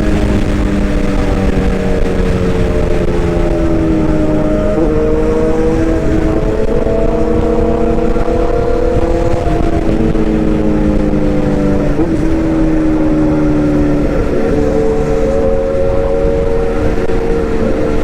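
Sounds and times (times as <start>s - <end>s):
motor whining and rumbling: 0.0s - 18.0s.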